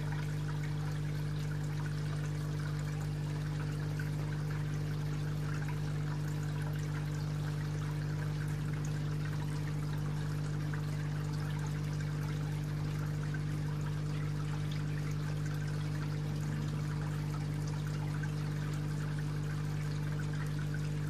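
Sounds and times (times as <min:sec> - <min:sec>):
water trickling into pond: 0:00.0 - 0:21.0.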